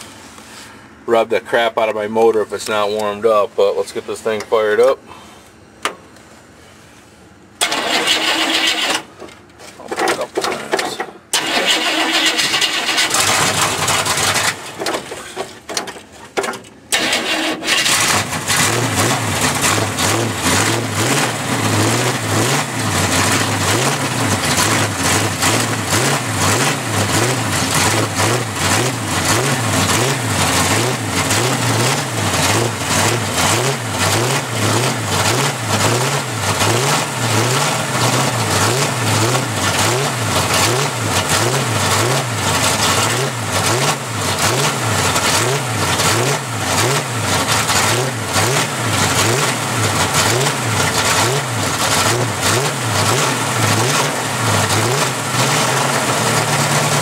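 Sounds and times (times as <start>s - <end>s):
truck engine running: 7.6s - 57.0s.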